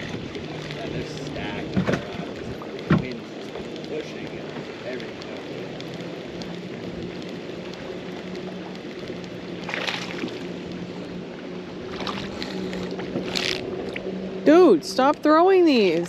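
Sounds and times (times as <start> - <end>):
small boat motor humming: 0.0 - 16.0
water lapping against hull: 0.0 - 16.0.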